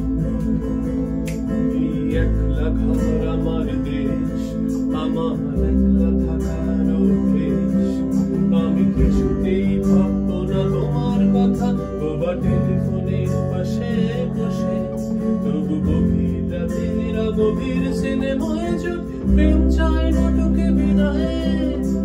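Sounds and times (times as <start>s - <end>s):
guitar sound strumming: 0.0s - 22.0s
held bass notes: 0.0s - 22.0s
keyboard instrumental music: 0.0s - 22.0s.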